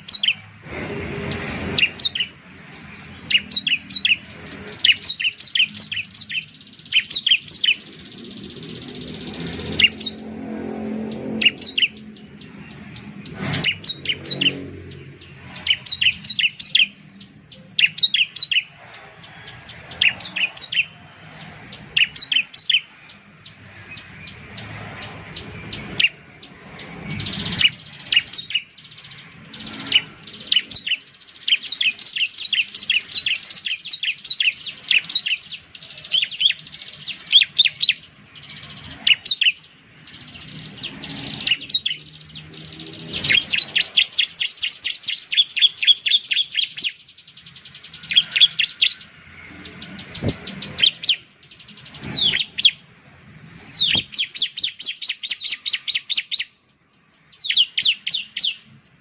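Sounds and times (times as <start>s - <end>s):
bird singing high chirps: 0.0s - 0.6s, 1.2s - 59.0s.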